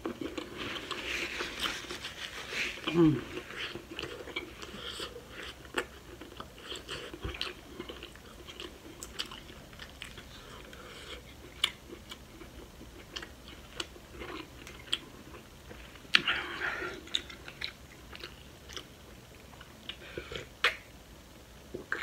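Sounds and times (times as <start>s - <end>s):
close chewing and mouth sounds: 0.0s - 20.9s, 21.7s - 22.0s.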